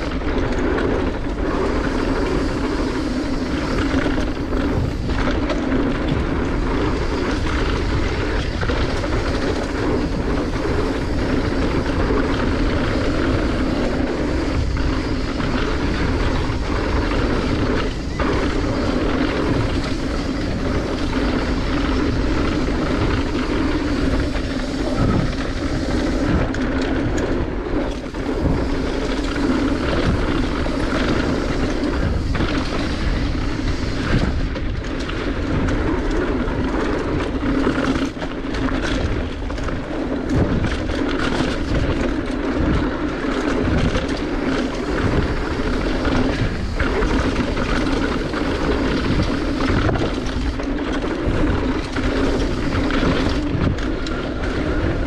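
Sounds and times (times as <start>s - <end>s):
bike knocks and rattles: 0.0s - 55.0s
bike tyre rumble on dirt: 0.0s - 55.0s
wind rush: 0.0s - 55.0s.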